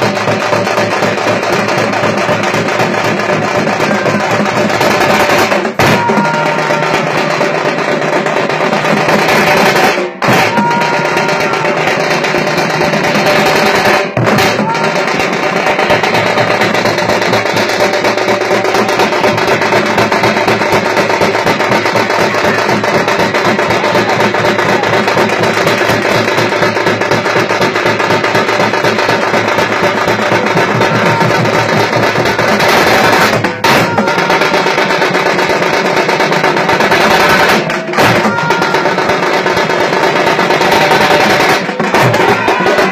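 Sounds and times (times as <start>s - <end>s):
folk drumming: 0.0s - 42.9s.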